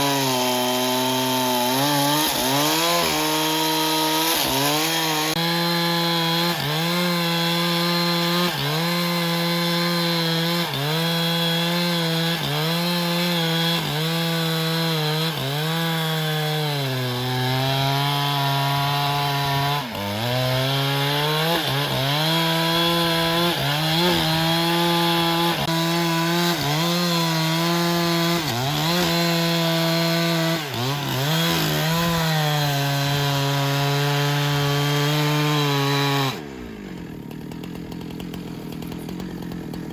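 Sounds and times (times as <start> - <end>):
power saw cutting wood: 0.0 - 39.9.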